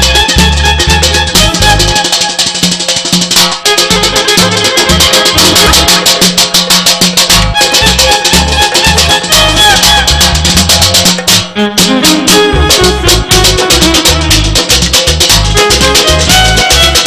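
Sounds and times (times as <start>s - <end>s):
bowed string melody: 0.0s - 17.0s
frame drum strokes: 0.0s - 17.0s.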